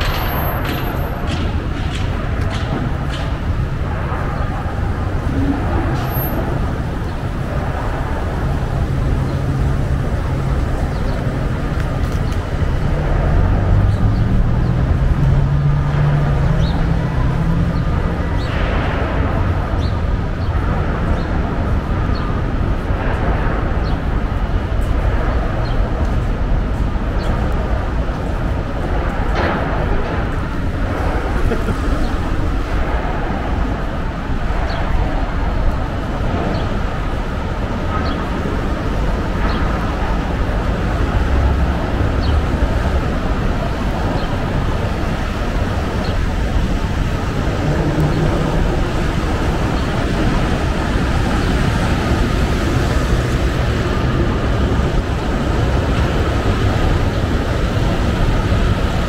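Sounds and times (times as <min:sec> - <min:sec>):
street traffic: 0:00.0 - 0:59.0
vehicle engine humming: 0:00.0 - 0:59.0.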